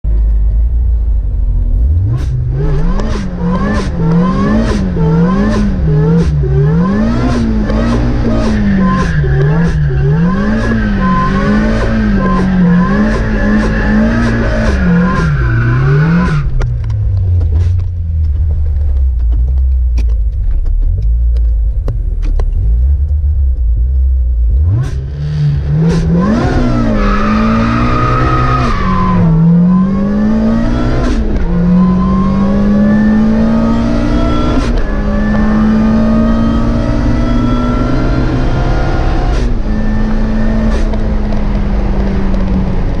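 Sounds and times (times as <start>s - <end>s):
engine accelerating through gears: 1.1s - 43.0s
supercharged car engine revving: 1.5s - 18.9s, 22.2s - 43.0s.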